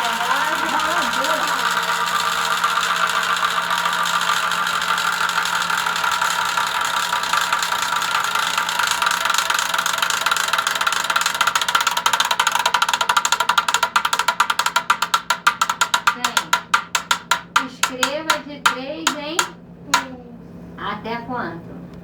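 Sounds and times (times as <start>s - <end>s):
ceiling fan motor rattling: 0.0s - 22.0s.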